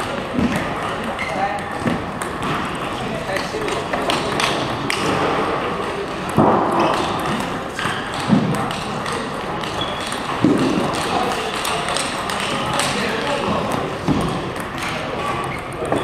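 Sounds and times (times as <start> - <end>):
large hall background noise: 0.0 - 16.0
table tennis balls clicking: 0.0 - 16.0.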